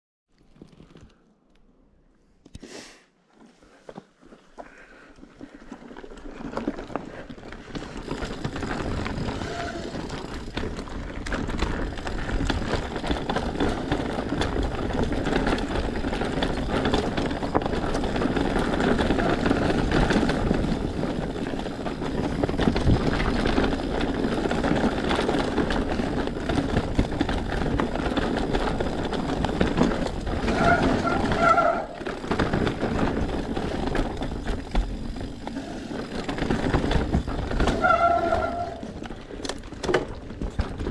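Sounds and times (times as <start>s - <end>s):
bike tyres crunching on dirt: 3.3s - 40.9s
bike rattling over bumps: 5.2s - 40.9s.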